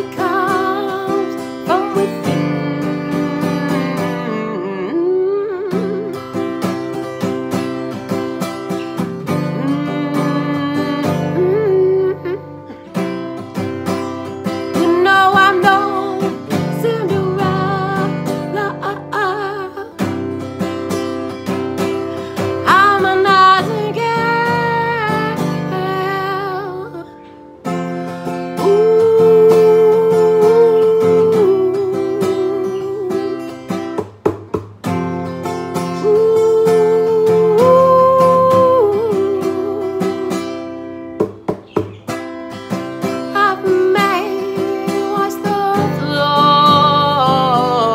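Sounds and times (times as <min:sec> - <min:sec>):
person singing: 0:00.0 - 0:07.5, 0:08.1 - 0:13.4, 0:14.4 - 0:27.3, 0:28.3 - 0:33.6, 0:35.5 - 0:40.8, 0:43.0 - 0:47.9
plucked acoustic guitar: 0:00.0 - 0:47.9.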